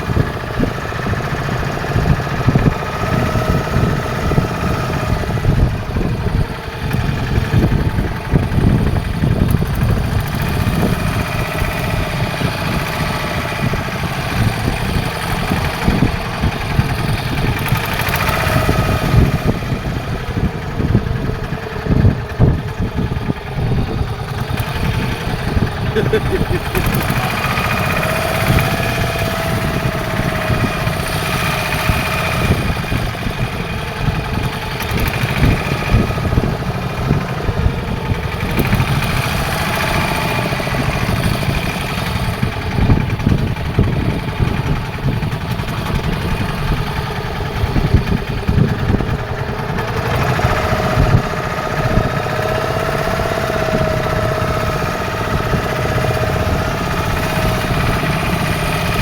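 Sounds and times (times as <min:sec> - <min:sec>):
boat engine rumbling with whine: 0:00.0 - 0:59.0.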